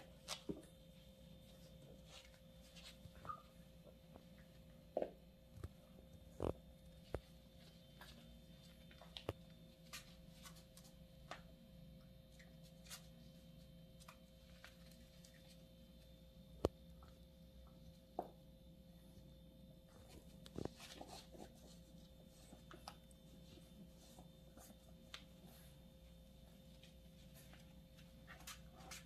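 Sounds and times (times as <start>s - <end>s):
faint room hum: 0.0s - 29.0s.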